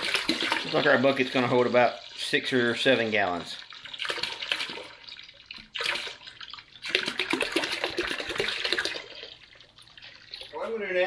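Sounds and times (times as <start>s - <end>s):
liquid pouring into a tub: 0.0s - 11.0s.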